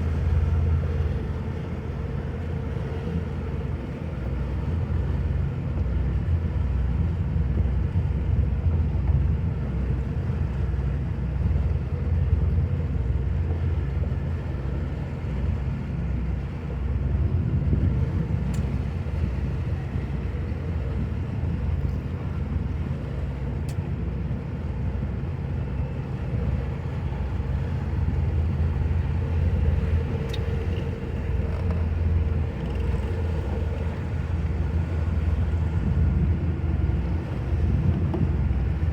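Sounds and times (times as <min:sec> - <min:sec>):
motorboat engine drone: 0:00.0 - 0:38.9.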